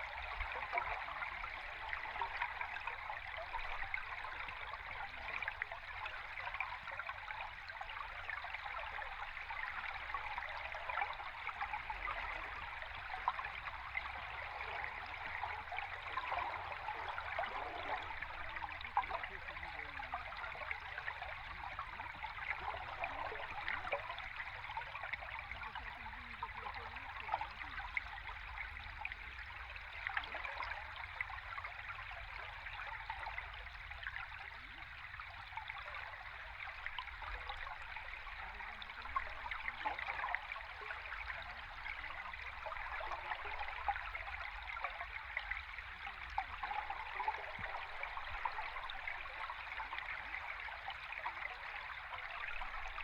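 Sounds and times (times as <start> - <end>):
underwater rush of stream water: 0.0 - 53.0.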